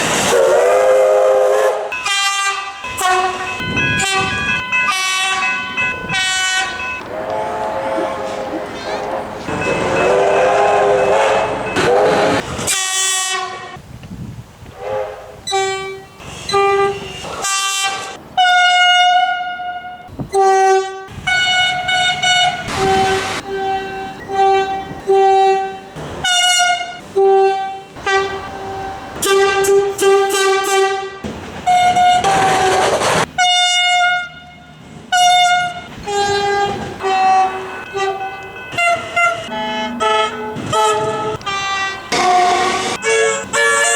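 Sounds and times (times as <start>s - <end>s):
rushing train noise: 0.0s - 43.9s
train horn short blasts: 0.3s - 5.5s, 6.1s - 13.8s, 14.8s - 43.9s.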